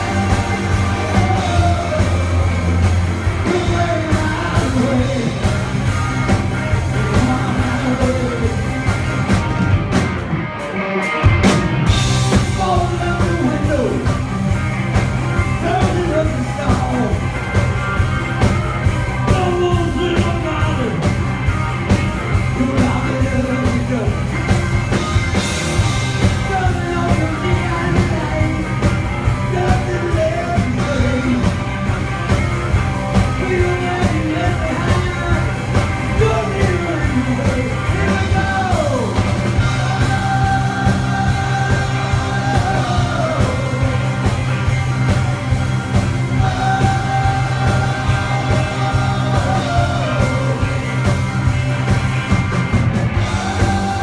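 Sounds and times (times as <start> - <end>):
bass guitar: 0.0 - 54.0
drums: 0.0 - 54.0
electric guitars playing lead lines: 0.0 - 54.0.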